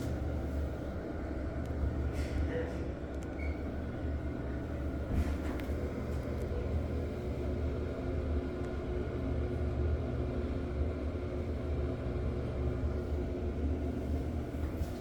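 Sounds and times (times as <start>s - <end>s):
exhaust fan humming: 0.0s - 15.0s.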